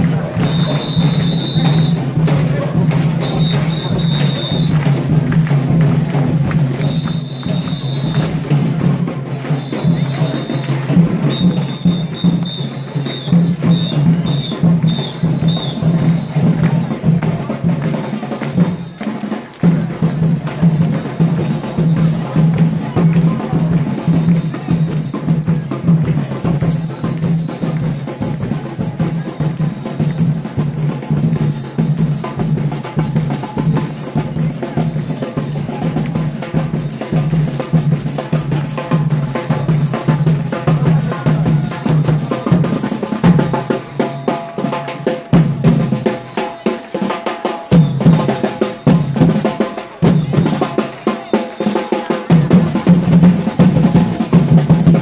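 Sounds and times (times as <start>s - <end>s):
bass drum and snare beating: 0.0s - 55.0s.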